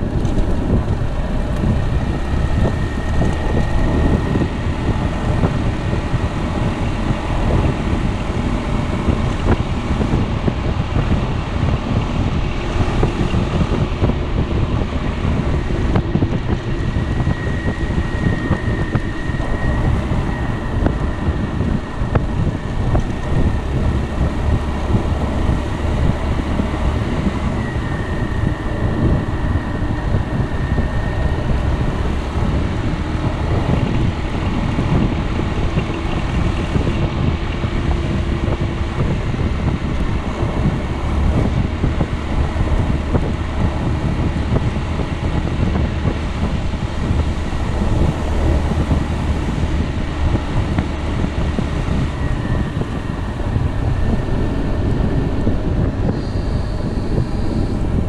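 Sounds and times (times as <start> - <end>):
road noise: 0.0 - 58.0
wind buffeting microphone: 0.0 - 58.0.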